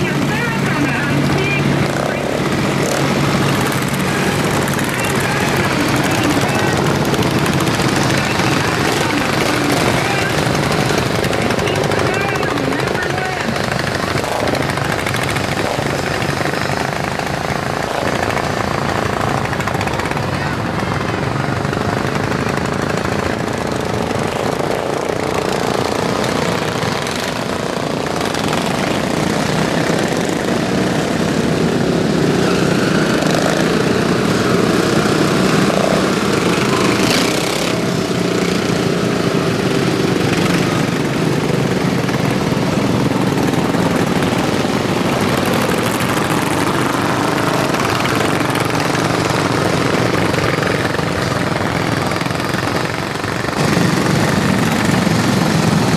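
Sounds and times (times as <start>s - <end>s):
racing lawn mower engines: 0.0s - 55.9s.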